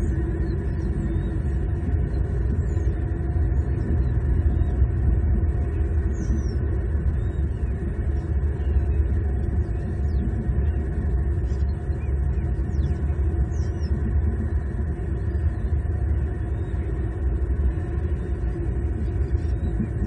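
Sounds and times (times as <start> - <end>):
low outdoor background rumble: 0.0 - 20.0.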